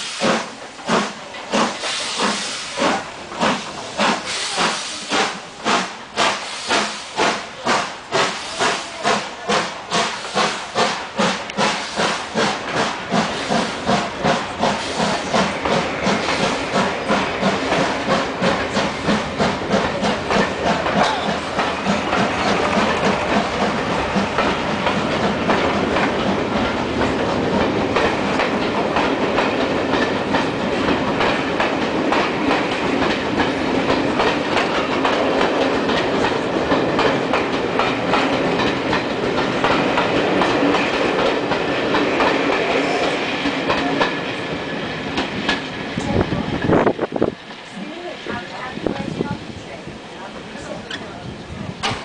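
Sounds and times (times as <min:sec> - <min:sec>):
train wheels clattering over rail joints: 0:00.0 - 0:52.0.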